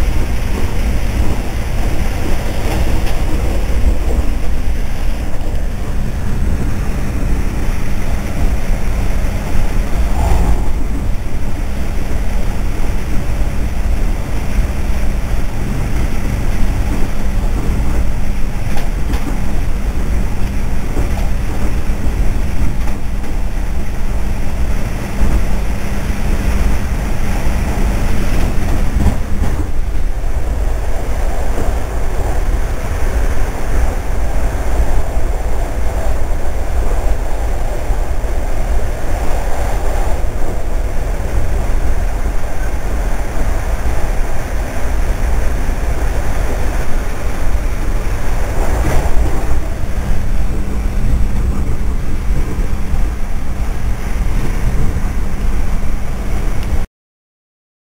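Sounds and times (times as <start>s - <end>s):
train carriage rumble and rattle: 0.0s - 56.9s.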